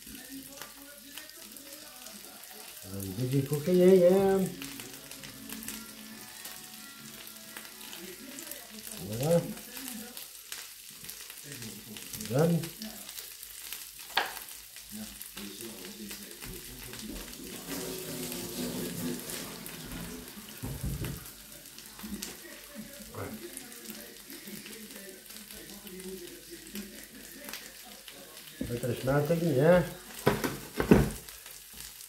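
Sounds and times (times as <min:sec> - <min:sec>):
potatoes sizzling in pans: 0:00.0 - 0:32.0.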